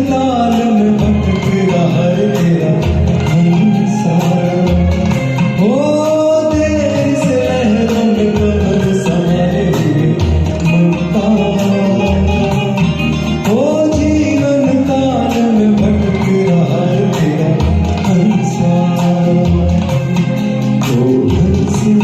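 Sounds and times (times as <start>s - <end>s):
backing track with steady beat: 0.0s - 22.0s
person singing karaoke: 0.0s - 22.0s.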